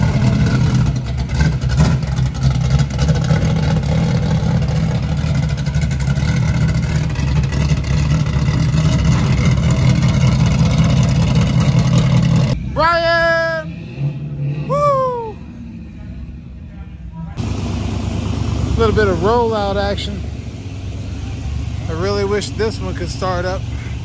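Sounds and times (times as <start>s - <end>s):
car engine running: 0.0s - 13.7s, 17.3s - 24.0s.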